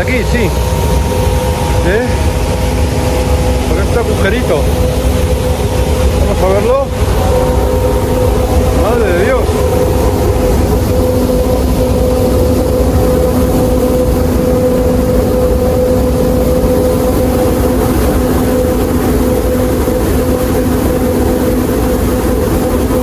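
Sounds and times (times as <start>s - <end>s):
constant hum: 0.0s - 23.0s
water gushing rumble: 0.0s - 23.0s.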